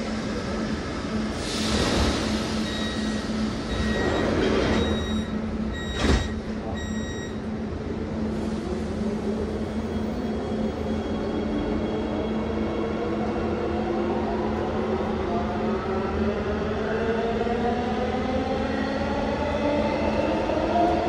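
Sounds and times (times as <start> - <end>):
train car hum and rumble: 0.0 - 21.0.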